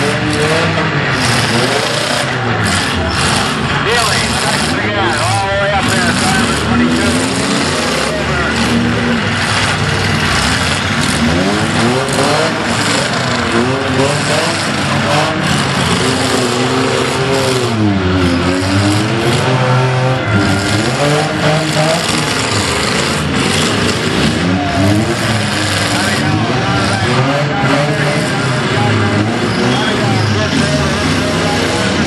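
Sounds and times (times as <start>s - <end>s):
car engines revving hard: 0.0s - 32.0s
crowd noise: 0.0s - 32.0s.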